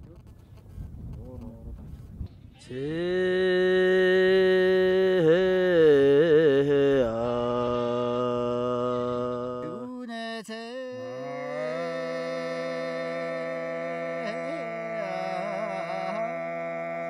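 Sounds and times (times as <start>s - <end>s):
man singing low drone: 2.6s - 17.0s
man singing melody: 2.6s - 17.0s.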